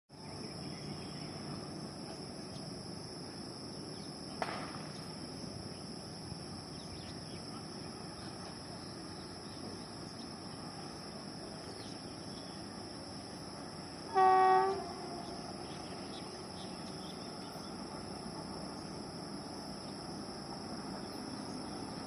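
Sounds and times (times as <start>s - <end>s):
faint outdoor background noise: 0.1s - 22.0s
insects chirring: 0.1s - 22.0s.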